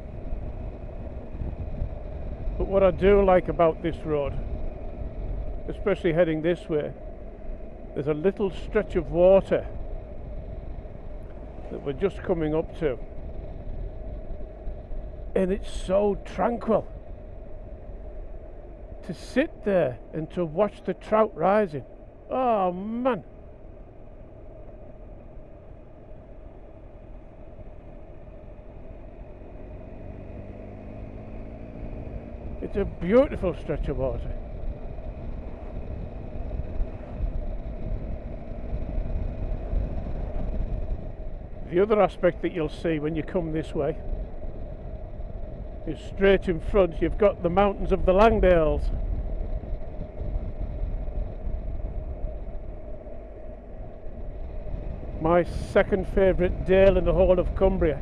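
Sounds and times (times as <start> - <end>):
wind noise: 0.0 - 23.5, 24.1 - 58.0
motorcycle engine: 0.0 - 58.0
road rumble: 0.0 - 58.0.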